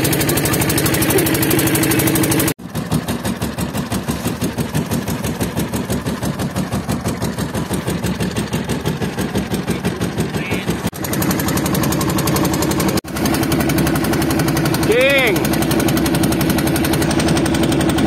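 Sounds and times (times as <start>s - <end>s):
boat engine pulsing: 0.0s - 18.0s.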